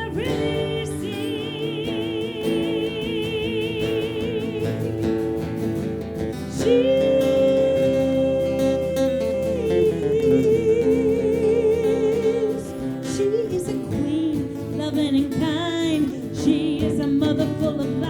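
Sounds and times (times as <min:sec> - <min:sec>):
acoustic guitar: 0:00.0 - 0:18.0
person singing with vibrato: 0:00.0 - 0:18.0.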